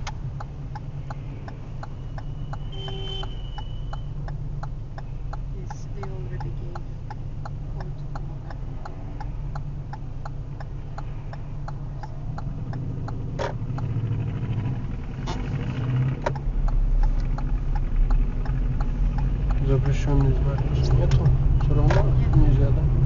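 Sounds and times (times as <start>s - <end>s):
car indicator relay ticking: 0.0s - 23.0s
engine drone and road noise: 0.0s - 23.0s.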